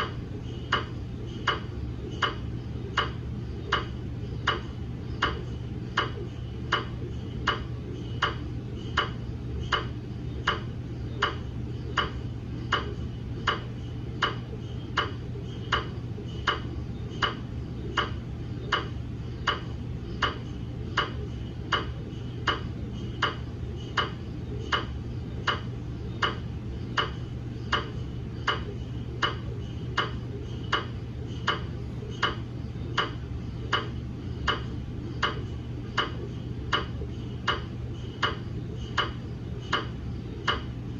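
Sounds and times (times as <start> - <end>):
mri scanner knocking: 0.0 - 40.8
steady low hum: 0.0 - 40.9.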